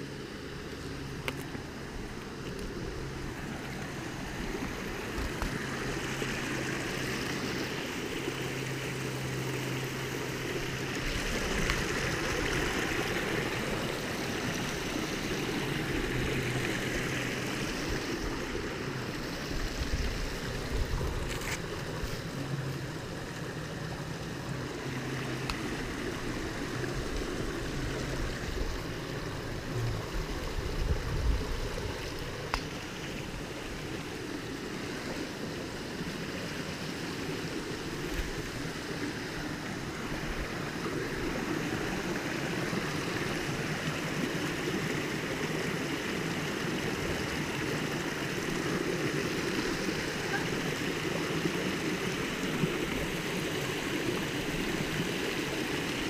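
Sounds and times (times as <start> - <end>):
rushing whitewater: 0.0 - 56.0.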